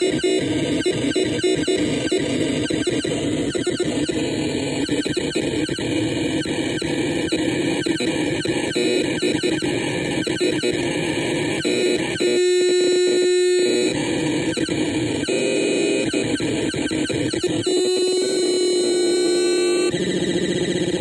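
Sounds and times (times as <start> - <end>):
harsh electronic noise: 0.0 - 21.0.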